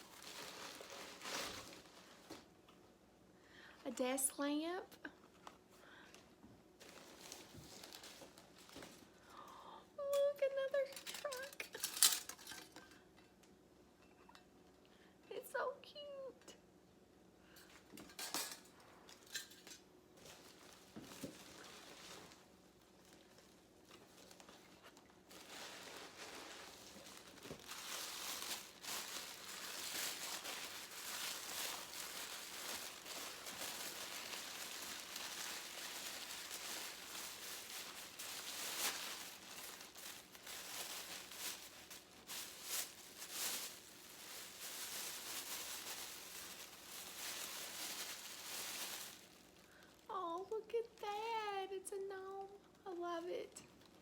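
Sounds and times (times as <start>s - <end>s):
wrapping paper crinkling: 0.0s - 2.7s, 6.8s - 9.3s, 10.2s - 12.8s, 18.1s - 54.0s.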